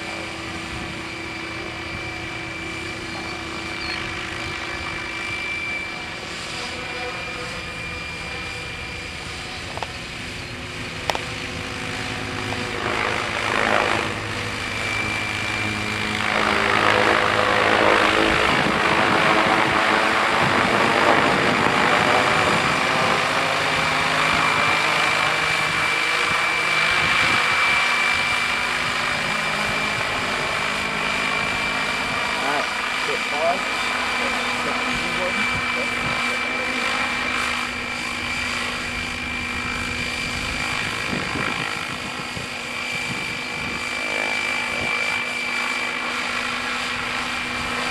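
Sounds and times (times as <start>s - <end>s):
model helicopter rotor drone: 0.0s - 47.9s
thin high whine: 0.0s - 47.9s.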